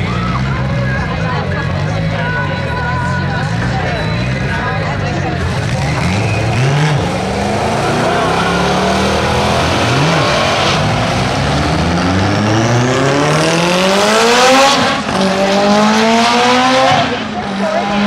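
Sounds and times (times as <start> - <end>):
drag racing cars accelerating: 3.2 - 18.0.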